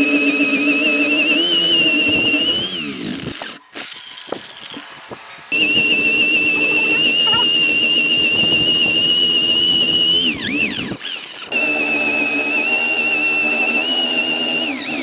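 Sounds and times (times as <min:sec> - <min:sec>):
power tool whining: 0:00.0 - 0:15.0.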